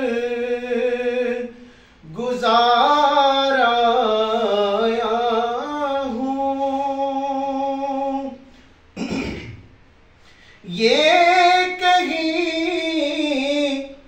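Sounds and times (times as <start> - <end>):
man singing unaccompanied: 0.0 - 8.5, 10.6 - 14.0.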